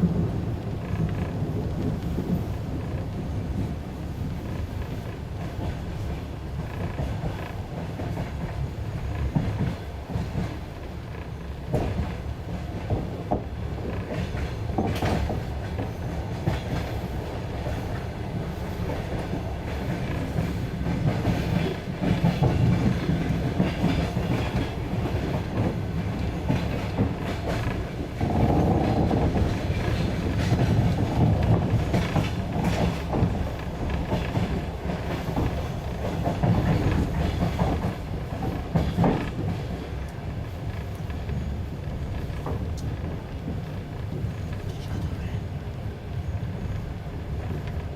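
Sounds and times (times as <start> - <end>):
train wheels rumbling and clicking: 0.0 - 47.9.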